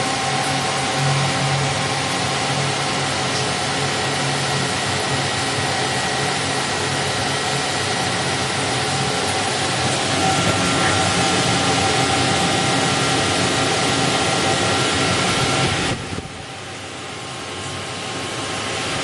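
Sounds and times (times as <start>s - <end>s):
lathe machine hum: 0.0s - 19.0s.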